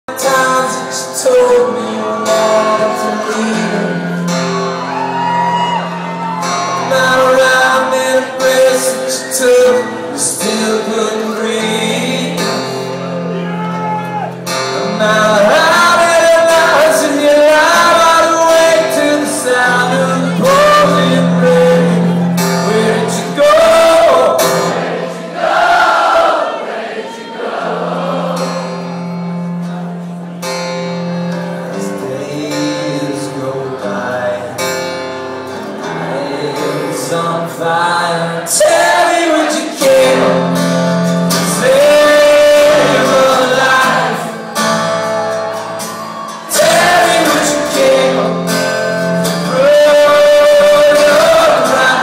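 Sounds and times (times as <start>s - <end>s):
person singing: 0.0s - 25.0s, 31.3s - 52.0s.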